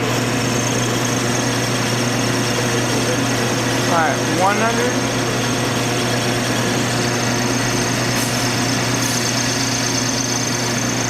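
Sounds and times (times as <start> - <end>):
metal lathe running: 0.0 - 11.0.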